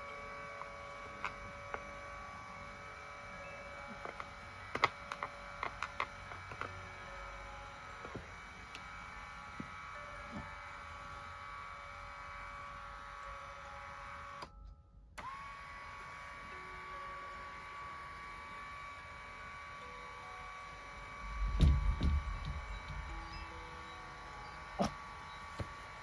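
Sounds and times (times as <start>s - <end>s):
electric motor whining: 0.0s - 14.6s, 15.2s - 26.0s.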